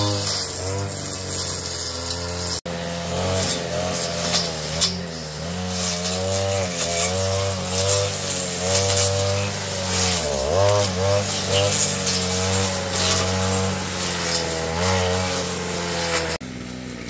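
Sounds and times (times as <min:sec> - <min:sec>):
power tool engine running: 0:00.0 - 0:17.0.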